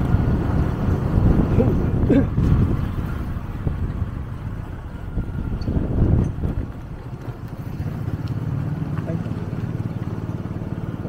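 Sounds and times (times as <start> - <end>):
motorcycle engine rumble: 0.0 - 11.0
road noise: 0.0 - 11.0
wind buffeting microphone: 0.0 - 11.0.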